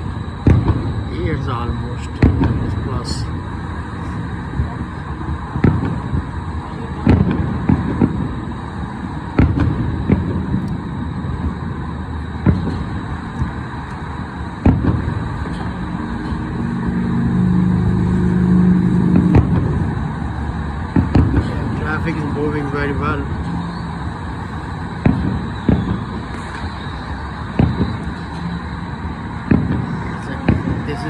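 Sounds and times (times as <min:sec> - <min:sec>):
city traffic hum: 0:00.0 - 0:31.0
distant fireworks bangs: 0:00.0 - 0:31.0
low steady drone: 0:00.0 - 0:31.0.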